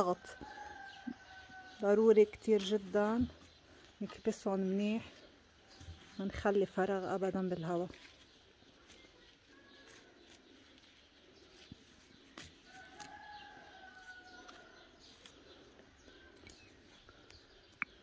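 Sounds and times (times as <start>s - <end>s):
faint outdoor background: 0.0s - 18.0s.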